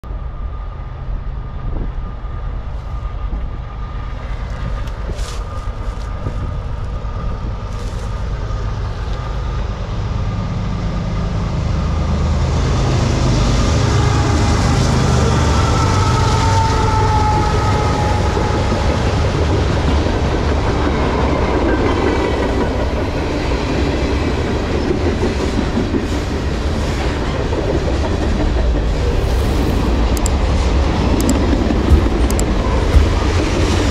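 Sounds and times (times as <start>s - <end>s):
diesel locomotive engine rumble: 0.0s - 33.9s
locomotive whine: 0.0s - 33.9s
train wheels rumbling on rail: 0.0s - 33.9s.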